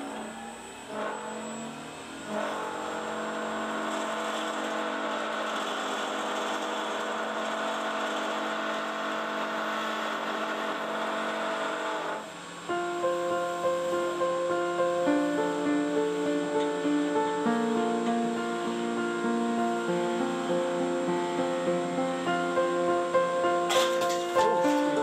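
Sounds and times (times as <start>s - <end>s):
wood lathe whine: 0.0s - 25.0s.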